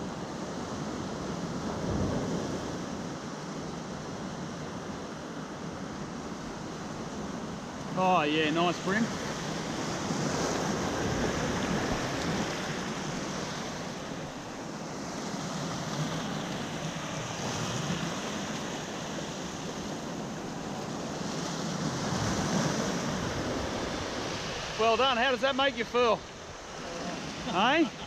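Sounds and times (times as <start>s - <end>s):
ocean waves washing over rocks: 0.2s - 28.0s.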